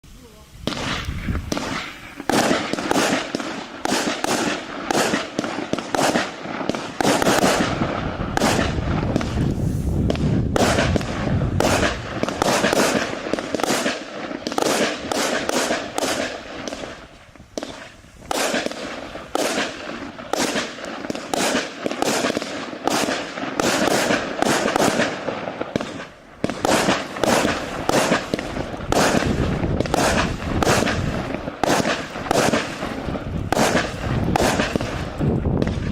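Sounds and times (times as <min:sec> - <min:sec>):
fireworks shots firing: 0:00.6 - 0:35.9.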